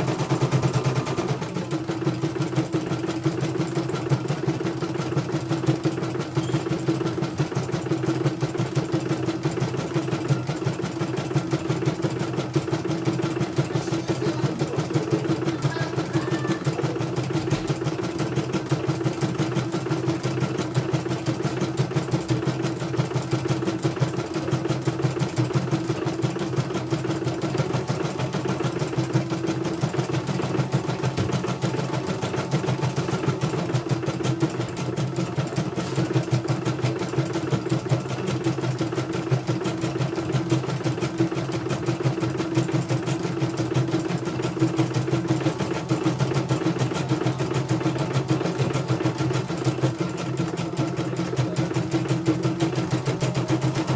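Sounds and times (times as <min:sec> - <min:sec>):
embroidery machine stitching: 0:00.0 - 0:53.9.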